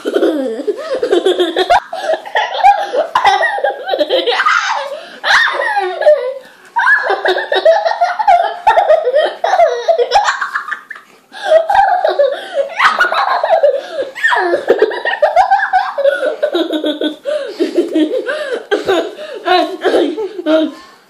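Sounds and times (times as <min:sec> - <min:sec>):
child laughing: 0:00.0 - 0:20.8.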